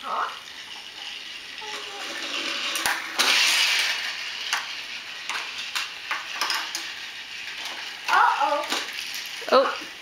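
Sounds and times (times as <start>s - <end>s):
toy train motor whirring: 0.0s - 10.0s.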